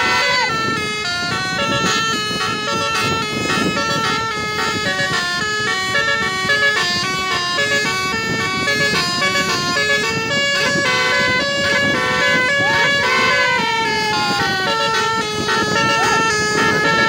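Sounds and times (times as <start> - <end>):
low traffic rumble: 0.0 - 17.0
musical air horn playing tune: 0.0 - 17.0.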